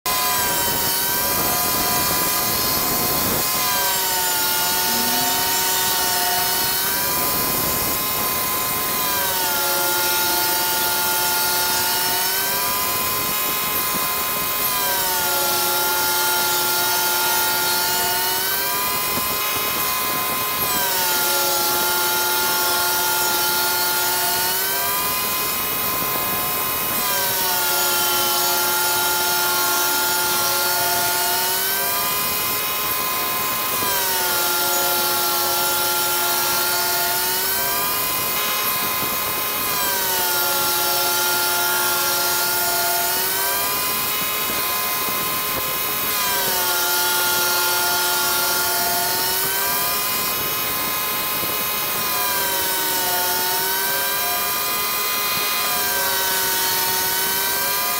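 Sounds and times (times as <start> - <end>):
band saw humming: 0.1 - 57.9.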